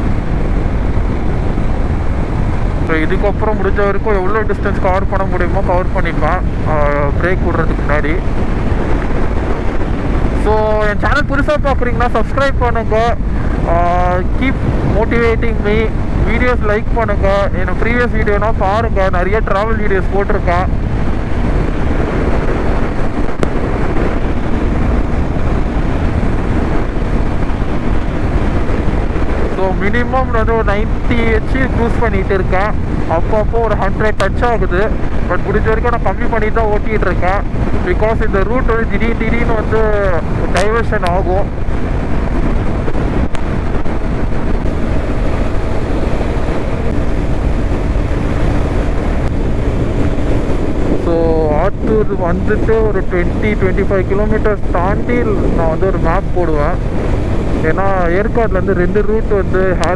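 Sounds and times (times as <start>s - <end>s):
motorcycle engine and road noise: 0.0s - 59.9s
wind rushing over microphone: 0.0s - 59.9s.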